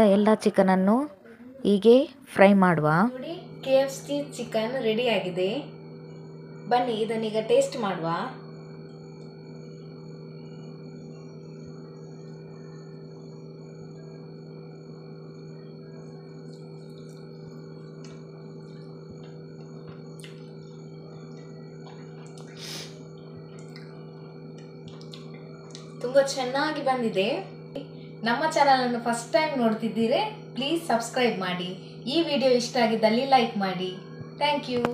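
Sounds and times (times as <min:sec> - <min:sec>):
steady background hum: 0:00.0 - 0:34.9.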